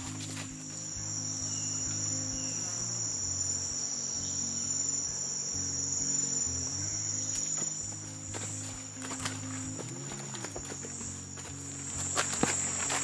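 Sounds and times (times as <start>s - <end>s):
insects droning: 0.0s - 13.0s
soft low background music: 0.0s - 13.0s.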